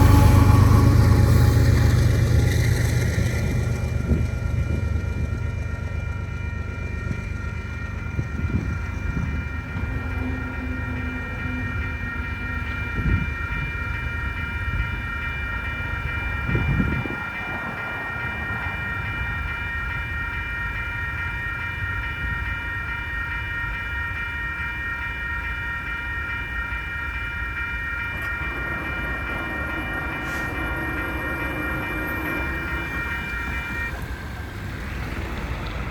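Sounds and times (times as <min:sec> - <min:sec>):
crossing warning bell ringing: 0:00.0 - 0:35.9
freight train cars rumbling: 0:00.0 - 0:35.9.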